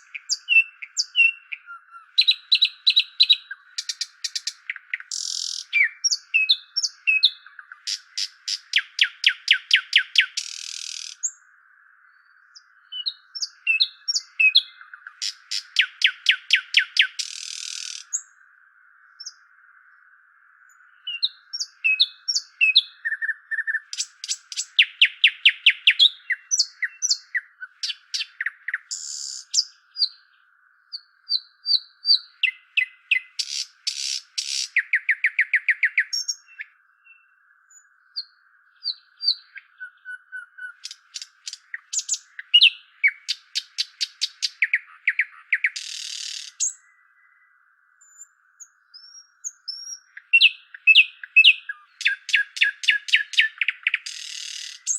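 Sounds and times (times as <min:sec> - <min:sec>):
bird trills and chirps: 0:00.0 - 0:18.4, 0:20.7 - 0:54.9.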